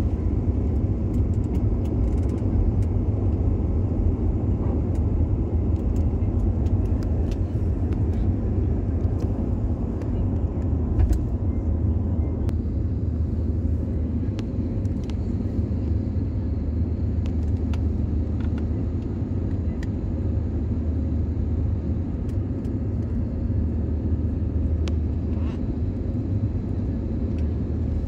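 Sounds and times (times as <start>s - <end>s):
jet engines low rumble: 0.0s - 28.0s.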